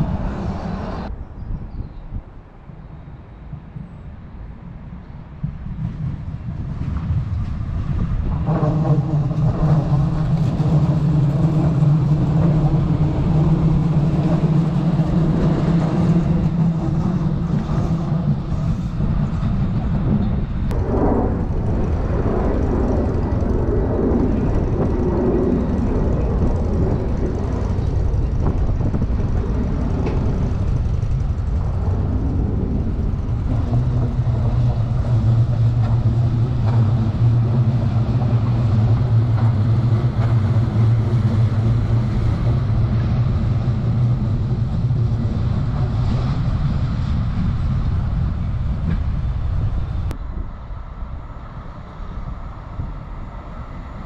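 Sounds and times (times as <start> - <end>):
low hum: 0.0 - 54.0
low vehicle rumble: 0.0 - 54.0.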